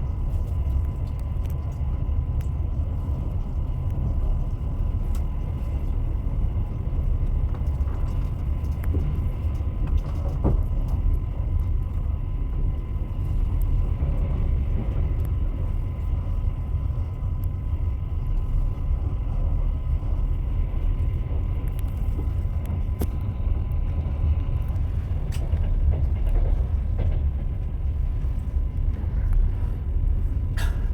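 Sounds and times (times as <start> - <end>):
train rumbling on rails: 0.0 - 30.9.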